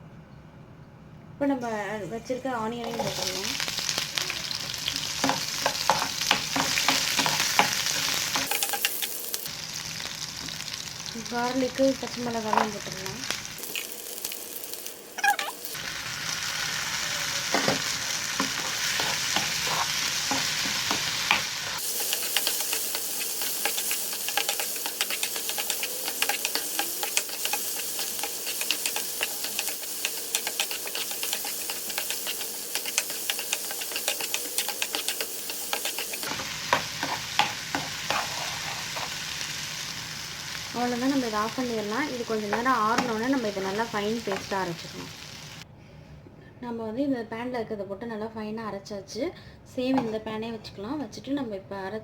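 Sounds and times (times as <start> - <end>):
food sizzling in hot oil: 2.8 - 45.6.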